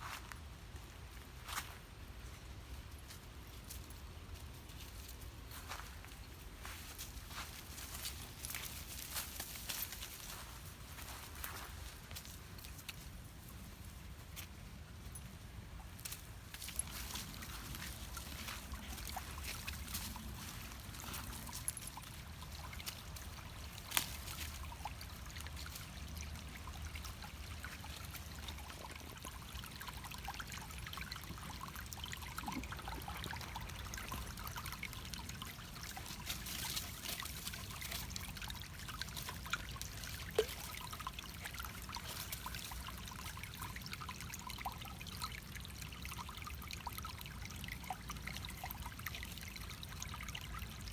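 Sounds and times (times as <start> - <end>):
creek water trickling over stones: 0.0 - 50.9.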